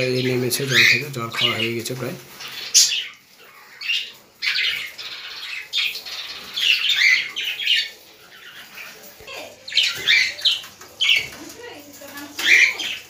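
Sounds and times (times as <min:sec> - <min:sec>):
parrots squawking and chattering: 0:00.0 - 0:13.0.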